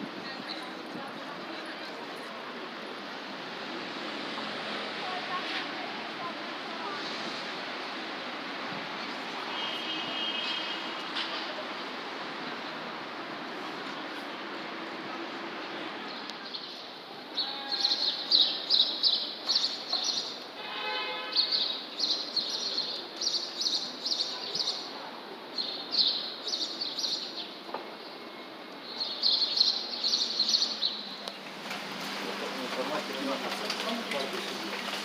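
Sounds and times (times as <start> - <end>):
city street background noise: 0.0 - 35.0.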